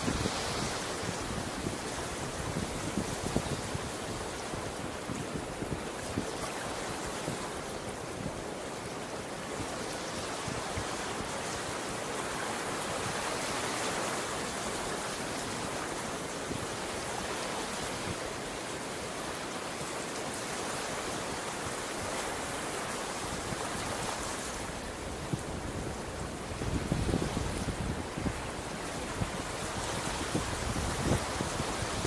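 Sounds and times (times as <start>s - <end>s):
ocean waves washing on beach: 0.0s - 32.0s.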